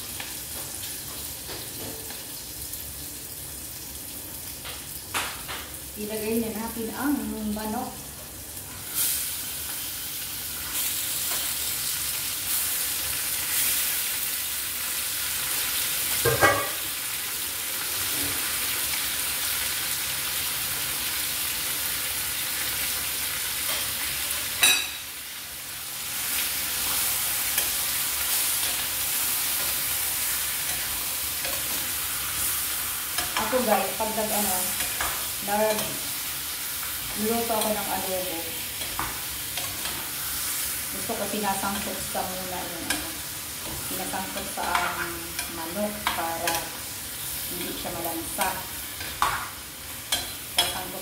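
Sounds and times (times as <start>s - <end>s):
chicken sizzling in hot oil: 0.0s - 51.0s.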